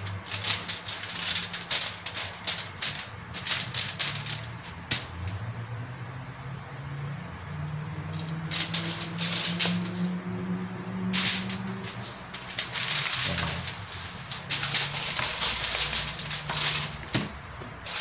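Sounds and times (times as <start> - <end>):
foil and leaves crinkling: 0.0 - 5.4, 8.1 - 10.2, 11.0 - 18.0.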